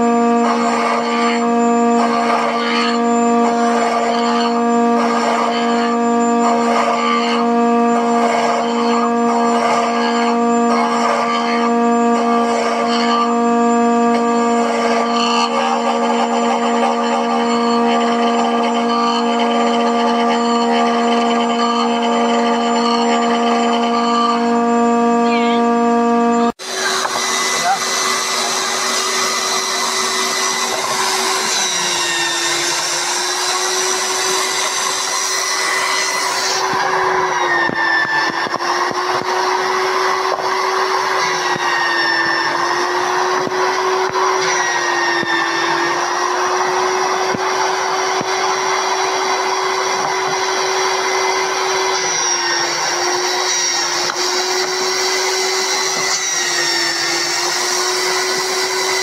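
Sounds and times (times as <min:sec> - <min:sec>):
belt sander motor running: 0:00.0 - 0:59.0.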